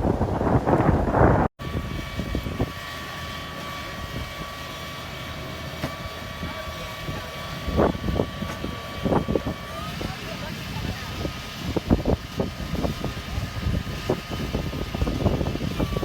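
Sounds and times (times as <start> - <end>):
mechanical hum with whine: 0.0 - 16.0
wind buffeting microphone: 0.0 - 16.0.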